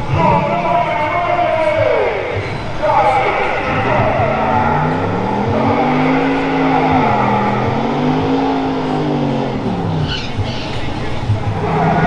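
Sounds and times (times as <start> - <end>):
drag racing car engine revving: 0.0 - 12.0.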